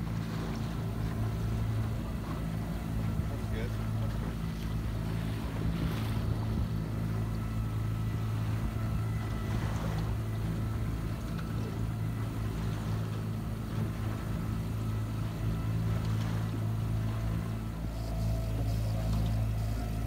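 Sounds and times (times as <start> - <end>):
outboard motor running: 0.0 - 20.0
water noise: 0.0 - 20.0
wind: 0.0 - 20.0.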